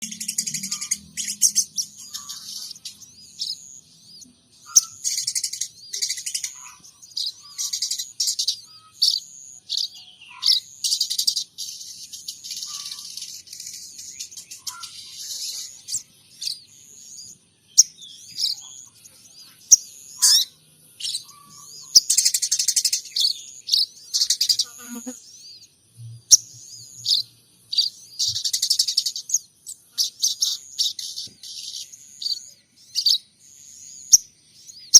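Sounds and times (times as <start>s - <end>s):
songbird chirping and trilling: 0.0s - 34.9s.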